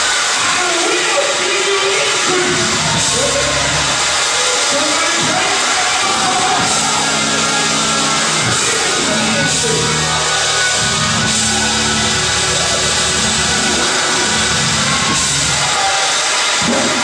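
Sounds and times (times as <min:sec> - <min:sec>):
drums: 0:00.0 - 0:17.0
loud band music: 0:00.0 - 0:17.0.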